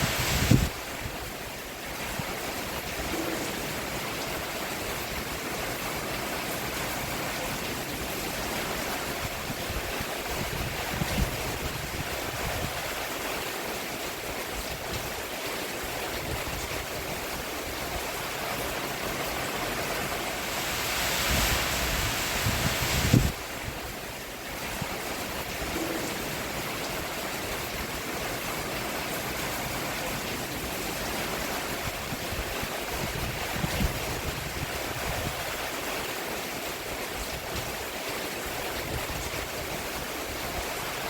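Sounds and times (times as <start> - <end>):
rain on a roof: 0.0 - 41.0.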